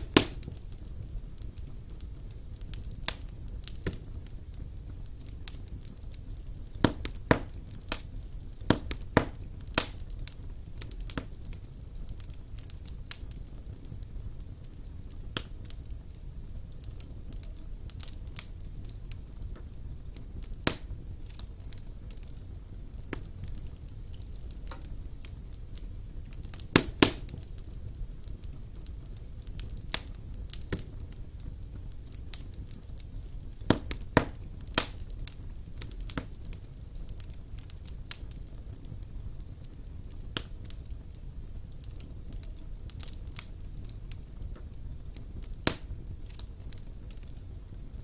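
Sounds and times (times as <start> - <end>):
burning logs crackling and popping: 0.0 - 48.0
low rumble of flames: 0.0 - 48.0.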